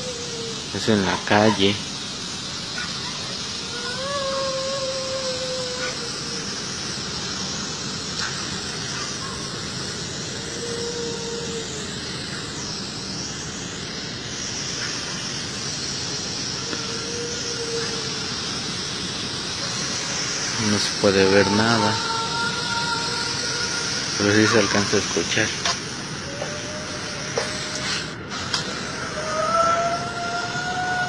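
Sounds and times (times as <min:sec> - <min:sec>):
faint drawn-out wailing: 0:00.0 - 0:31.0
night street background noise: 0:00.0 - 0:31.0.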